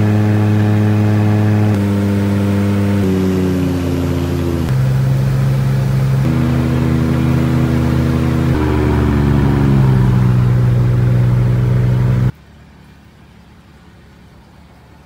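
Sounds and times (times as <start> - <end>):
aircraft engine and propeller: 0.0 - 12.3.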